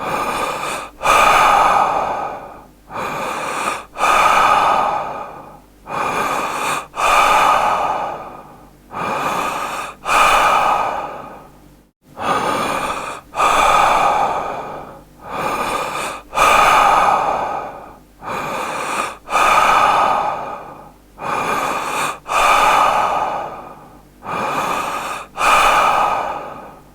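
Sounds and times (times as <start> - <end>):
man breathing deeply: 0.0 - 26.9.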